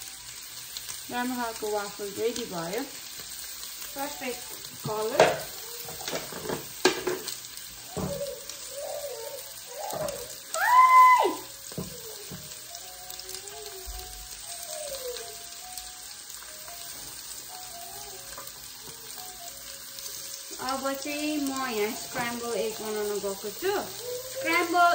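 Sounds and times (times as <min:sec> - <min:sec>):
sausages sizzling in a pan: 0:00.0 - 0:24.9.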